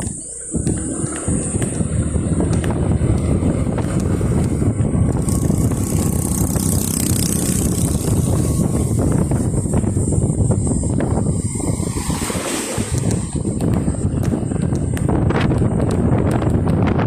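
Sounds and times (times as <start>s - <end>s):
motorcycle engine rumbling: 0.0s - 17.0s
wind noise on microphone: 0.0s - 17.0s.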